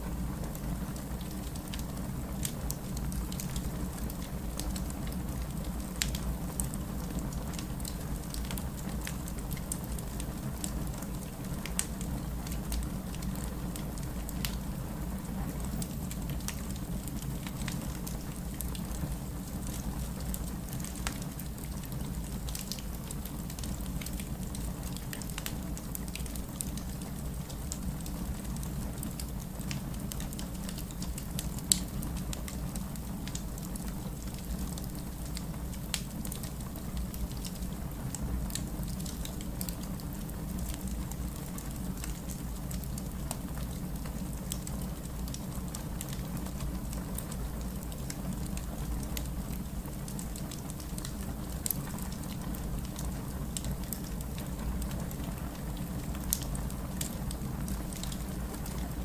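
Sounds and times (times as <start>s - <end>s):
low rumble of flames: 0.0s - 59.0s
wood fire crackling: 0.0s - 59.0s.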